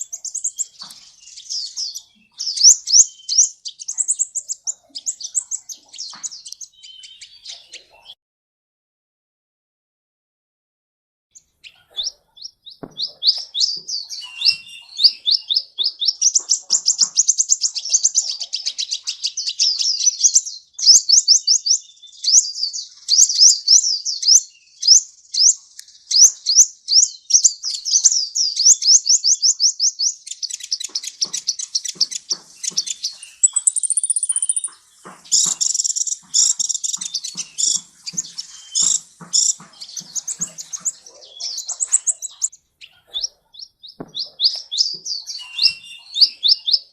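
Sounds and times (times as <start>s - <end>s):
bird singing chirps and trills: 0.0s - 8.2s, 11.4s - 46.9s.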